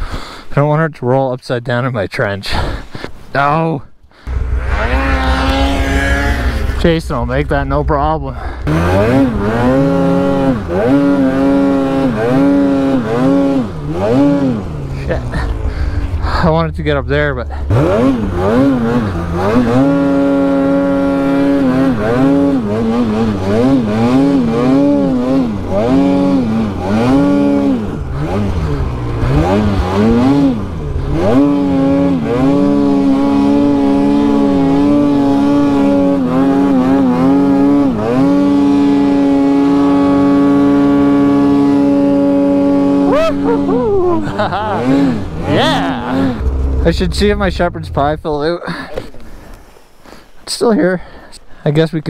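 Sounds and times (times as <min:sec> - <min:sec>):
snowmobile engine revving: 0:04.2 - 0:51.0.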